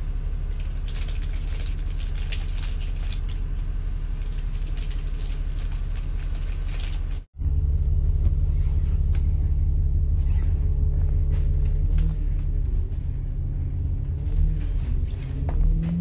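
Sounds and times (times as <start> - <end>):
bus rumbling in motion: 0.0 - 16.0.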